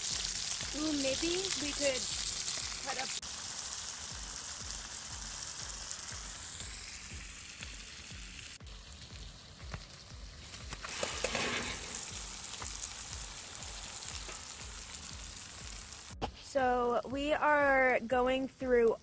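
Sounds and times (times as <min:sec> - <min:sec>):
meat sizzling in a skillet: 0:00.0 - 0:16.2.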